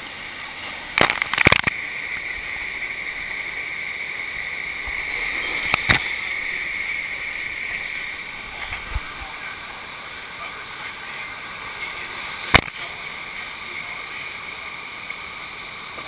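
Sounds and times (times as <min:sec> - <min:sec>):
rushing water from wave machine: 0:00.0 - 0:16.0.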